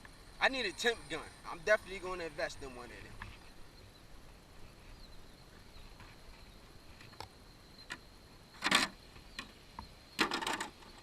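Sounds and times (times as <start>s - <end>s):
faint high insect-like tone: 0.0s - 11.0s.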